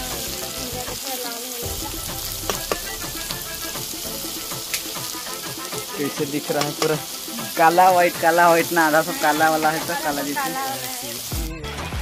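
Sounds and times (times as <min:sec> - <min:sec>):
mushrooms sizzling in hot oil: 0:00.0 - 0:11.6.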